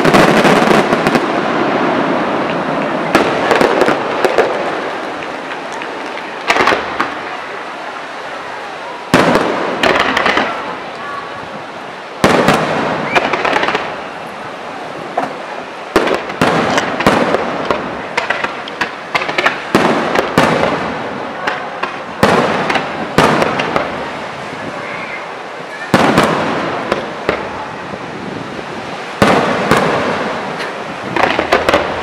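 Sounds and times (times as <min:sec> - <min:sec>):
fireworks bangs: 0:00.0 - 0:07.6, 0:09.0 - 0:32.0
fireworks crackling: 0:00.0 - 0:32.0.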